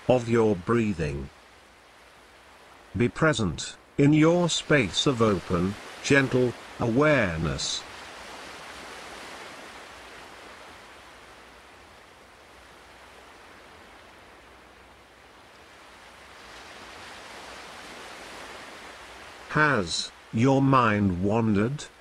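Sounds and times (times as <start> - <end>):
ocean surf washing ashore: 0.0 - 22.0.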